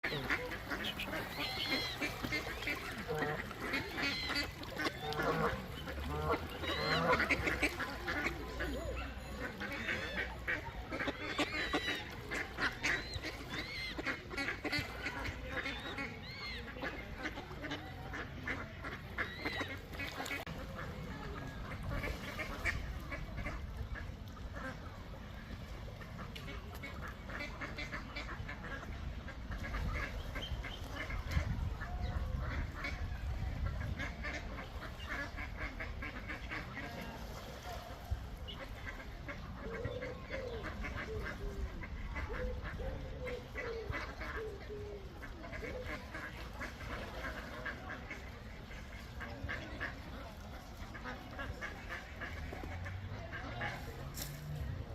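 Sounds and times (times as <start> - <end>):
ducks quacking: 0.0 - 54.9.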